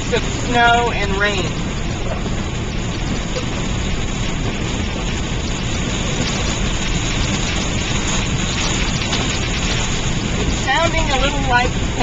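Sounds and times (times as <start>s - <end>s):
car engine: 0.0s - 12.0s
road noise: 0.0s - 12.0s
sleet pattering on a car: 1.6s - 12.0s.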